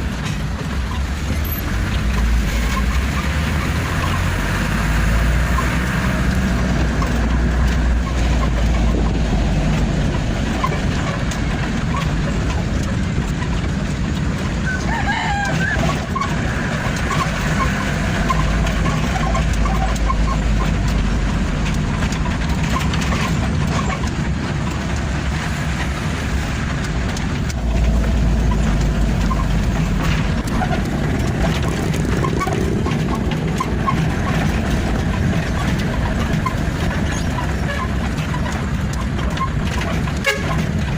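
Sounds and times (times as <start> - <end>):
road rumble: 0.0 - 40.9
truck engine running: 0.0 - 40.9.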